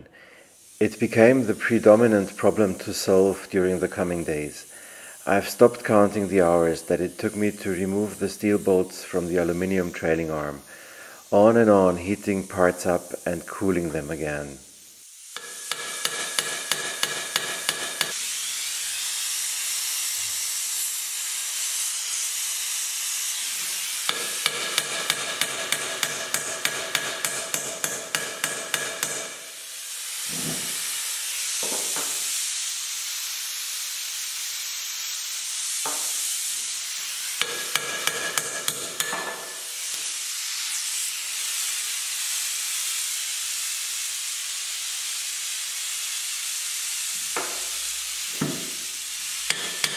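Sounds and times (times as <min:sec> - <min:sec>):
gas torch hissing: 0:00.0 - 0:49.9
freeze spray hissing: 0:00.3 - 0:18.9, 0:21.8 - 0:49.9.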